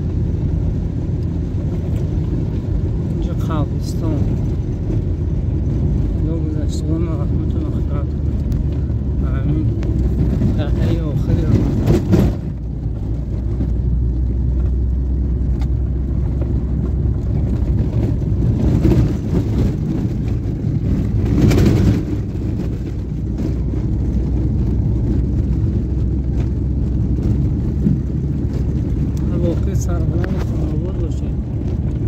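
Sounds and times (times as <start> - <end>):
car driving interior rumble: 0.0 - 32.0.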